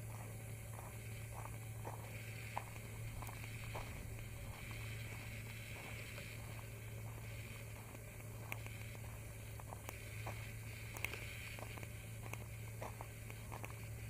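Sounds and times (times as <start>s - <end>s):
footsteps on gravel: 0.0s - 14.0s
steady low hum: 0.0s - 14.0s.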